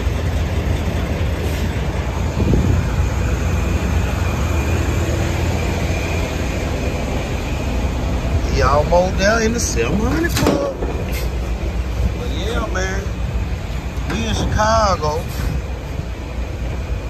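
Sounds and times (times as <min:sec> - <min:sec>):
low rumble of heavy vehicle: 0:00.0 - 0:17.0.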